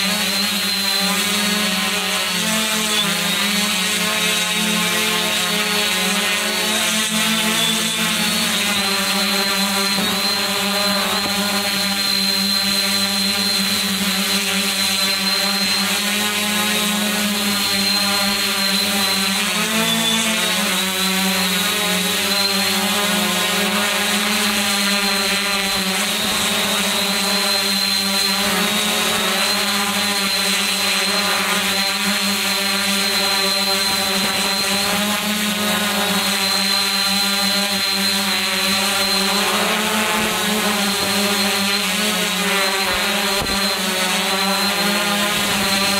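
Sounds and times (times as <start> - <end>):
drone motors humming and whining: 0.0 - 45.9.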